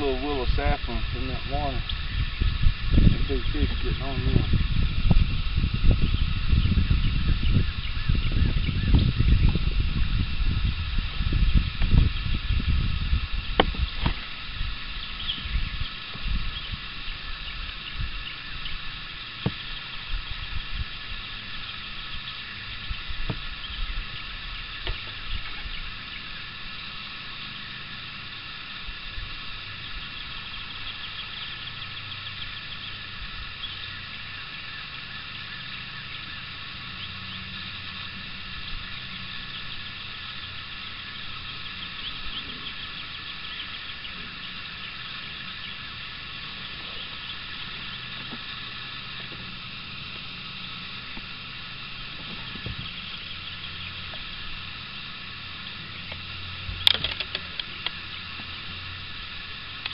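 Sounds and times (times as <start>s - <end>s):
wind buffeting microphone: 0.0s - 27.0s, 37.1s - 59.9s
hissing background on open water: 0.0s - 59.9s.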